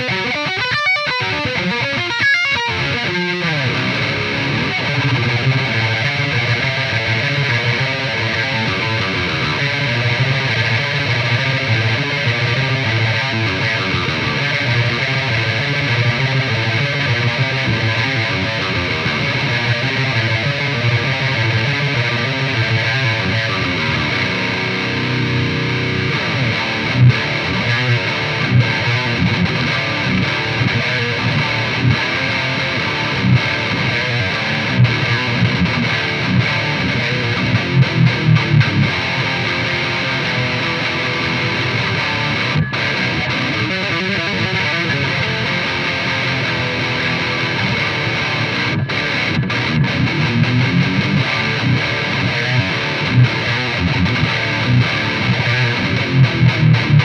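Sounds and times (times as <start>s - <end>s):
distorted electric guitar riffing: 0.0s - 57.0s.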